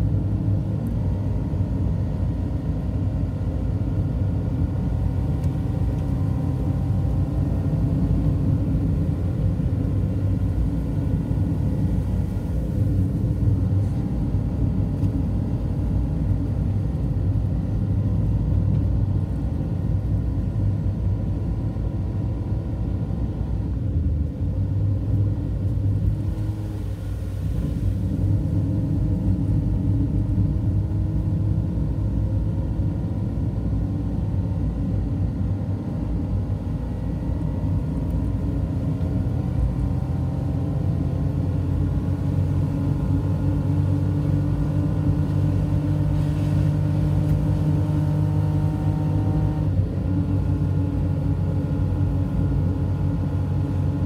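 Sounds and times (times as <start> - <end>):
car engine: 0.0 - 54.0.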